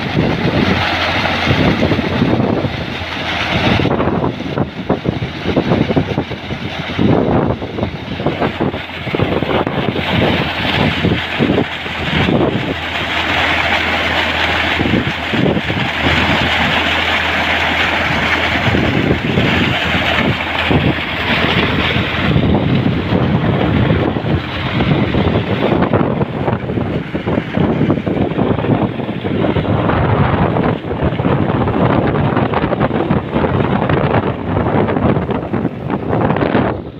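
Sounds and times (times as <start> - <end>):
tractor engine running: 0.0 - 36.9
wind buffeting microphone: 0.0 - 36.9.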